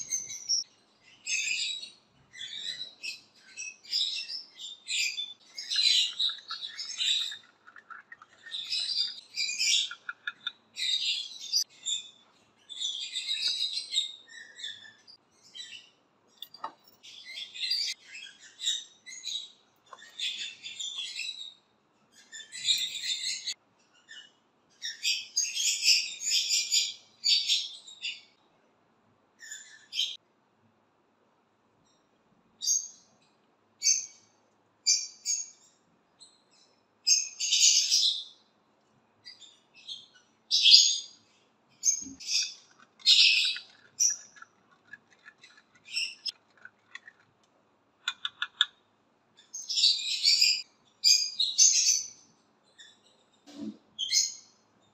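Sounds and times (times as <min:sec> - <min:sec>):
small birds chirping: 0:00.0 - 0:28.5, 0:29.4 - 0:30.2, 0:31.8 - 0:54.9.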